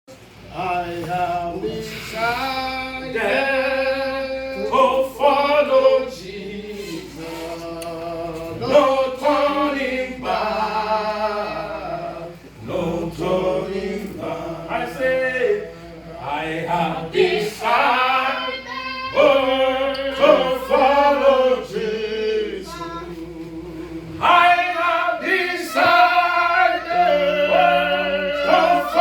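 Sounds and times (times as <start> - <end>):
congregation singing: 0.1 - 29.0.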